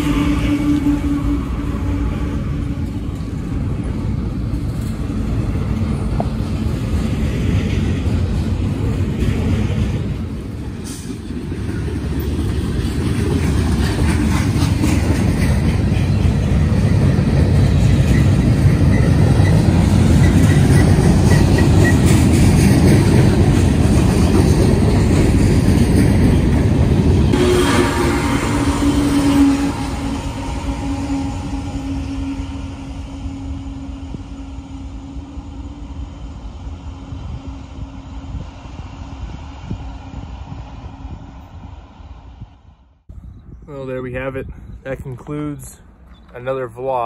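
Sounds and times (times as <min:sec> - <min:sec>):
freight train cars rolling past: 0:00.0 - 0:43.1.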